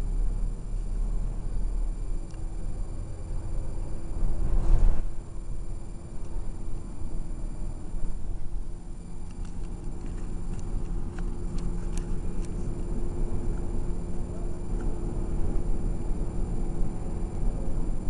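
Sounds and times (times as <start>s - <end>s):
bus engine and road rumble: 0.0s - 18.0s
constant hum: 0.0s - 18.0s.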